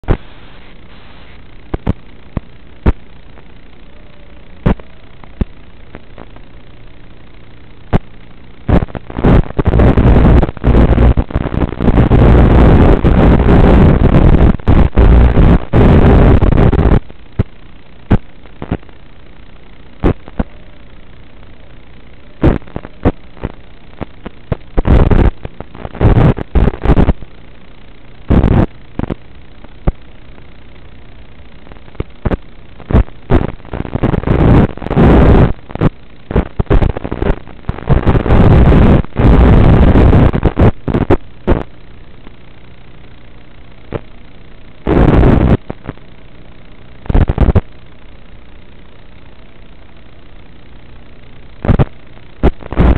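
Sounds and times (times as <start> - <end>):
harsh static bursts: 0.0 - 52.9
video receiver hiss: 0.0 - 52.9.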